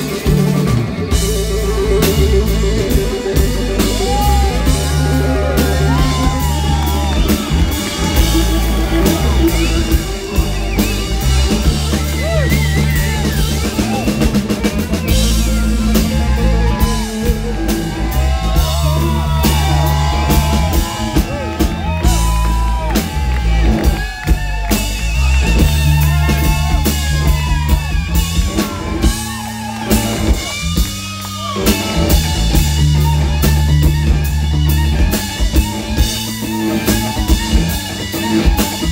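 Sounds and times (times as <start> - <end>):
drum kit: 0.0 - 38.9
electric guitar: 0.0 - 38.9
heavy bass line: 0.0 - 38.9.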